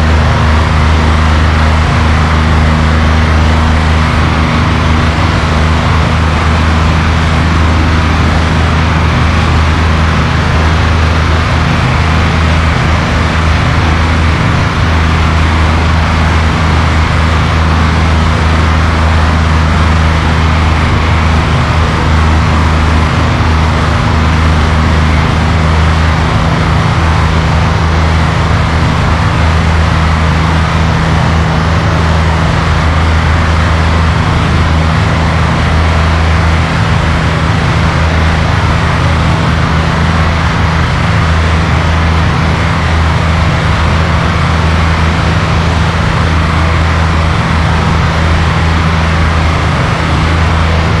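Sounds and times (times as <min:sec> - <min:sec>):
airplane engine drone: 0:00.0 - 0:51.0.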